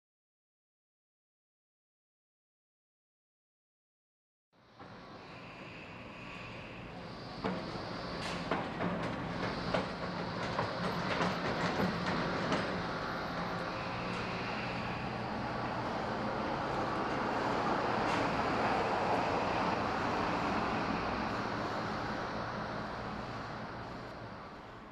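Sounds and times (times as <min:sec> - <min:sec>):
vehicle passing rumble: 0:04.6 - 0:24.9.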